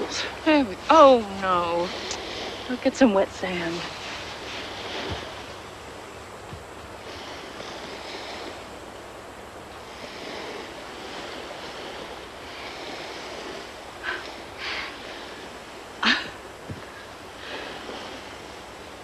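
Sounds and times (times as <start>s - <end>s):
surf washing on a beach: 0.0s - 19.0s.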